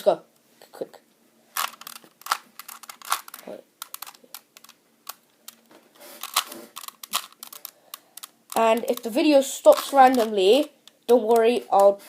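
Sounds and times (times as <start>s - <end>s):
puzzle cube plastic clicks: 1.6s - 12.0s.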